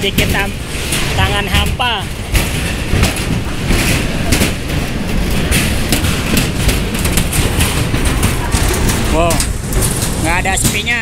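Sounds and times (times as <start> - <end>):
crowd footsteps and clatter: 0.0 - 11.0
low train rumble: 0.0 - 11.0.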